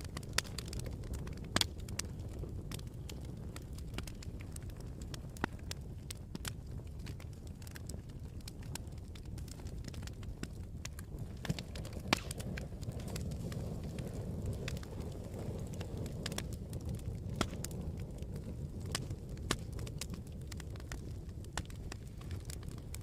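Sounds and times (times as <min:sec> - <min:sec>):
fire popping and crackling: 0:00.0 - 0:23.0
low rumble of flames: 0:00.0 - 0:23.0.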